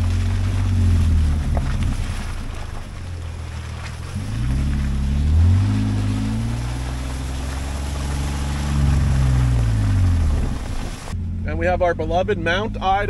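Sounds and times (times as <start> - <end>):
tyre and road noise: 0.0 - 13.0
vehicle engine under load: 0.0 - 13.0.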